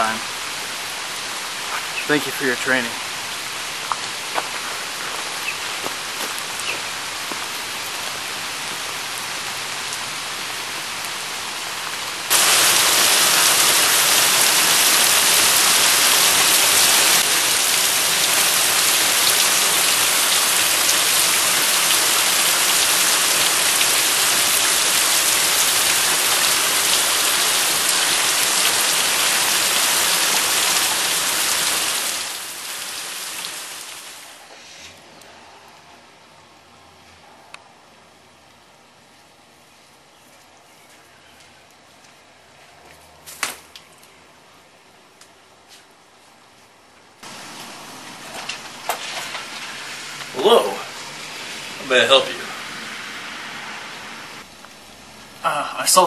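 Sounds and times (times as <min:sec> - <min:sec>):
steady rain hiss: 0:00.0 - 0:42.4, 0:43.2 - 0:56.0.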